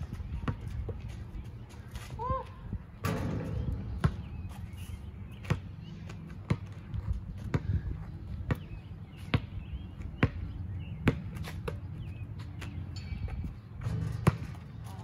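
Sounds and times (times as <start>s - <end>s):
basketball bouncing on asphalt: 0.0s - 1.5s, 3.0s - 15.0s.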